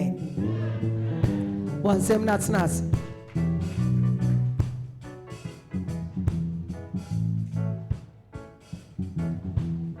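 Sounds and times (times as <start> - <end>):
bass line: 0.0 - 5.0, 5.7 - 8.0, 9.0 - 10.0
guitar: 0.0 - 10.0.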